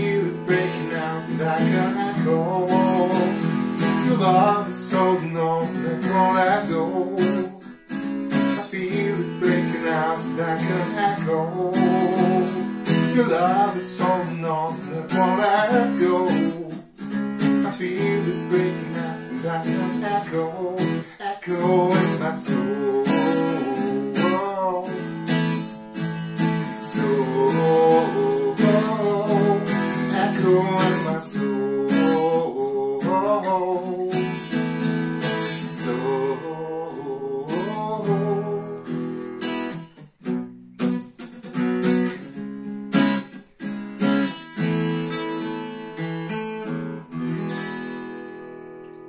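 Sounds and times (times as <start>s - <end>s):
guitar strumming chords: 0.0s - 49.0s.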